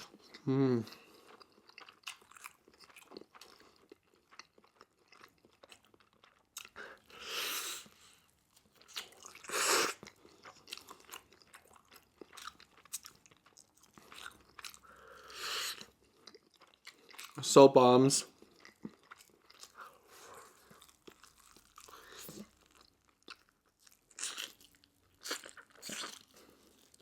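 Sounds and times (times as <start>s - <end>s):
chewing crunchy fried chicken: 0.0s - 17.6s, 18.2s - 27.0s.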